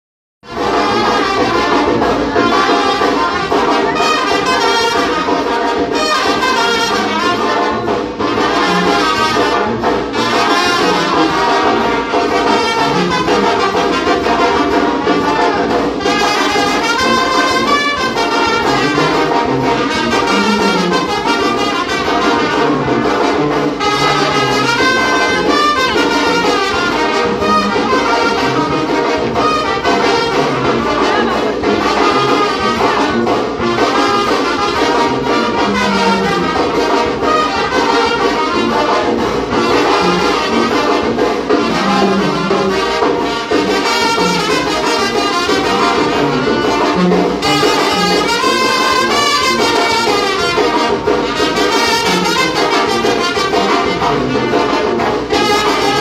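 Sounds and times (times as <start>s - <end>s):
brass band playing dance music: 0.4s - 56.0s.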